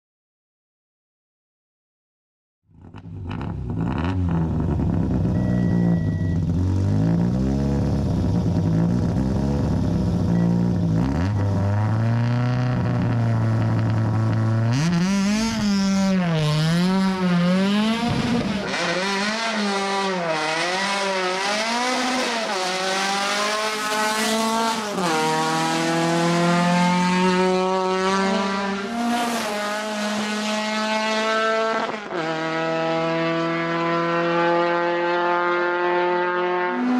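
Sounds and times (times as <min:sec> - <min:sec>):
race car engine revving: 0:02.8 - 0:36.9.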